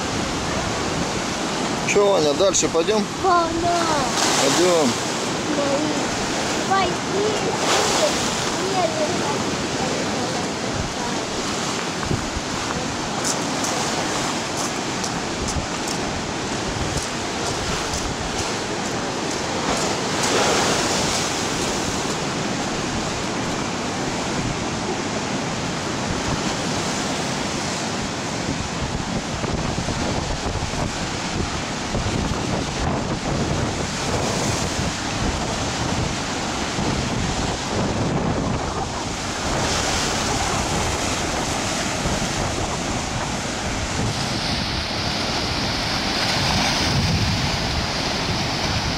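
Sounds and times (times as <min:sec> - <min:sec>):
surf breaking on shore: 0:00.0 - 0:48.9
wind buffeting microphone: 0:00.0 - 0:48.9.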